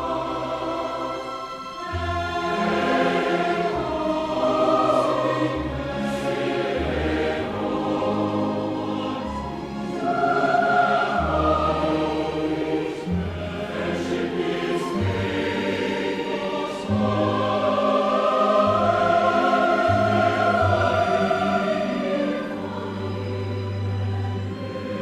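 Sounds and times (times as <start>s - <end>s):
chamber orchestra: 0.0s - 25.0s
mixed choir singing: 0.0s - 25.0s.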